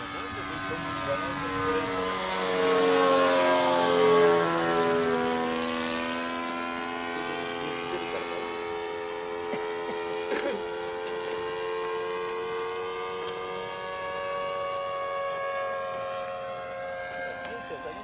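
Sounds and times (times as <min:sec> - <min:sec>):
model airplane engine and propeller: 0:00.0 - 0:18.0.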